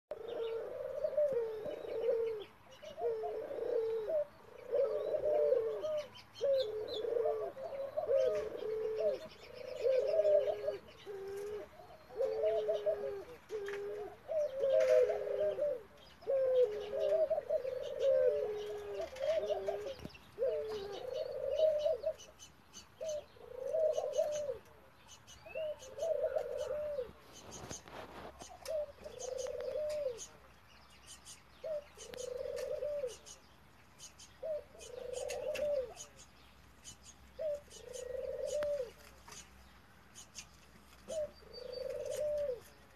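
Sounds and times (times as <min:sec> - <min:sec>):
dove cooing: 0:00.1 - 0:30.5, 0:31.1 - 0:33.4, 0:34.0 - 0:39.6, 0:40.2 - 0:42.9.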